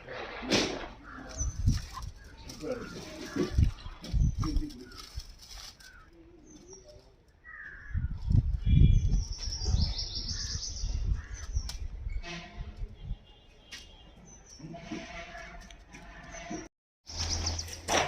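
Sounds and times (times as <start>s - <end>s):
birds chirping: 1.0s - 12.3s, 13.9s - 17.9s.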